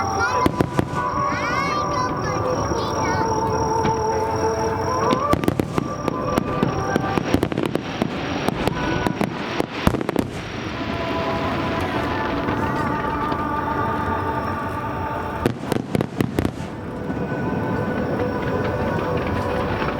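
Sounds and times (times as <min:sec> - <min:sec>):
background music: 0:00.0 - 0:19.9
fireworks bangs and crackles: 0:00.0 - 0:19.9.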